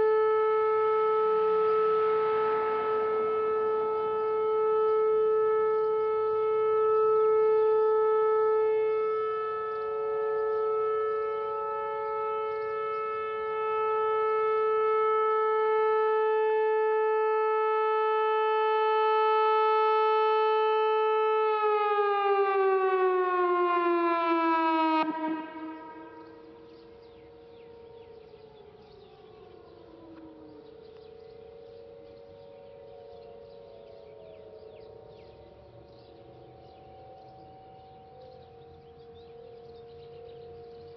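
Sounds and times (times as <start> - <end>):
electronic warning siren: 0.0 - 40.9.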